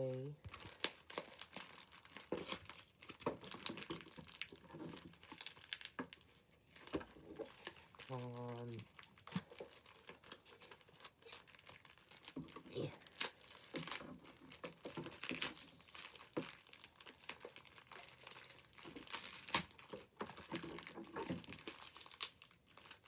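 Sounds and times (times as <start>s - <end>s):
plastic packaging crinkling: 0.0s - 23.0s.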